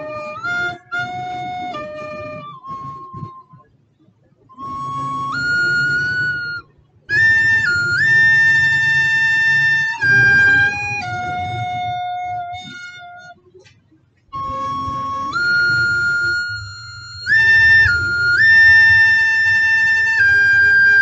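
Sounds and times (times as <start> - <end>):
recorder melody: 0.0 - 3.7, 4.5 - 21.0.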